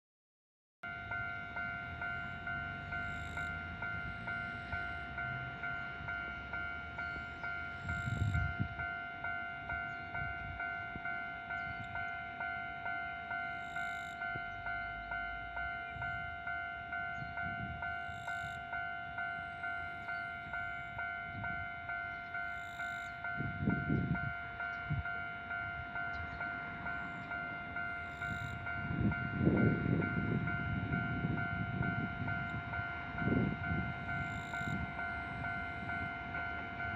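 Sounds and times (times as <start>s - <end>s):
level-crossing warning bell: 0.8s - 36.9s.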